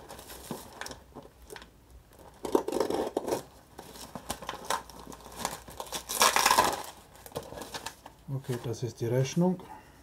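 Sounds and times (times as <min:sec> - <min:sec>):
plastic package tearing: 0:00.0 - 0:08.7.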